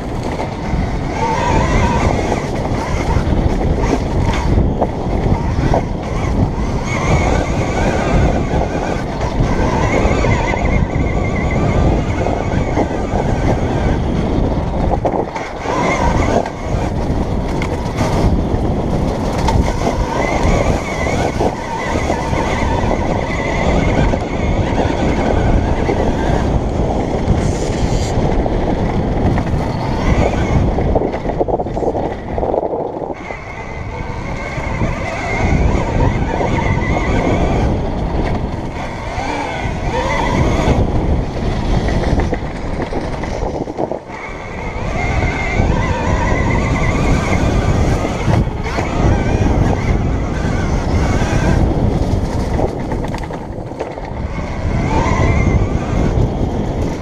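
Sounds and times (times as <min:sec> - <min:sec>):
electric motor whine: 0:00.0 - 0:57.0
wind and ground rumble: 0:00.0 - 0:57.0.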